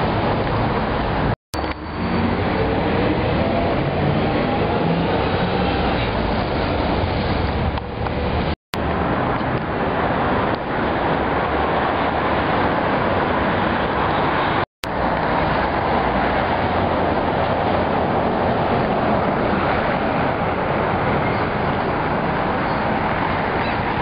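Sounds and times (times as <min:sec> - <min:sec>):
rushing outdoor background noise: 0:00.0 - 0:24.0.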